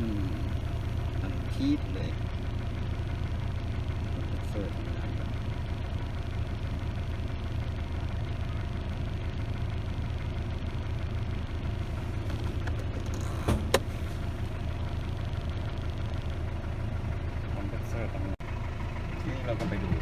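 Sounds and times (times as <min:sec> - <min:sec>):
air conditioning compressor running: 0:00.0 - 0:20.0
engine idling: 0:00.0 - 0:20.0.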